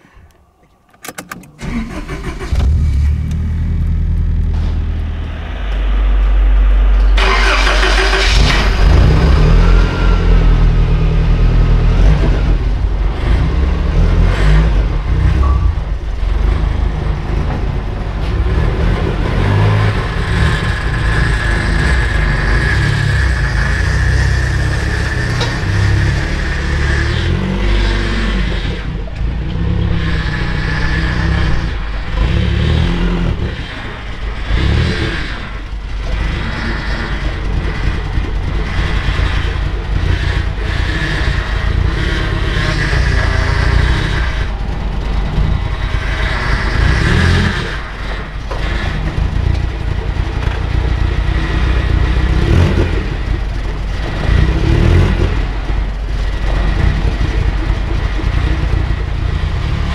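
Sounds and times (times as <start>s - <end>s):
car engine revving: 1.6s - 59.9s.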